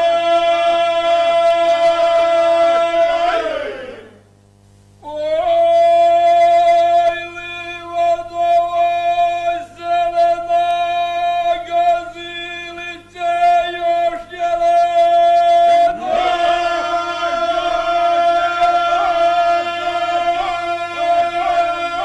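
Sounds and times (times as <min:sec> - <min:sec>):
men singing unaccompanied: 0:00.0 - 0:04.2, 0:05.0 - 0:22.0.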